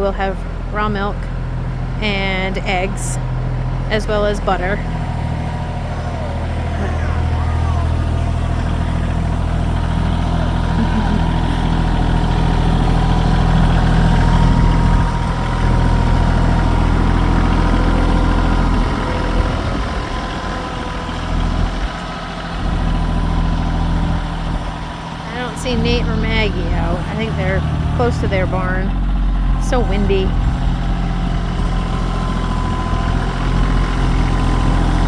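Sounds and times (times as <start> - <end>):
tractor engine drone: 0.0 - 35.0.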